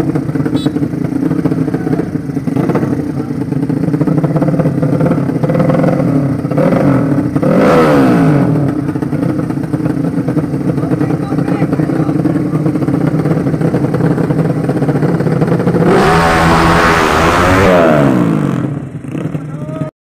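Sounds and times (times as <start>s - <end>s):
racing motorcycle engines revving: 0.0s - 19.9s.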